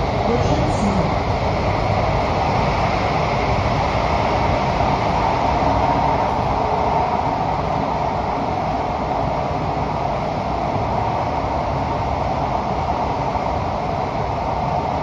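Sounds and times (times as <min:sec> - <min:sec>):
faint steady hum: 0:00.0 - 0:15.0
wheels on rail and air rushing: 0:00.0 - 0:15.0.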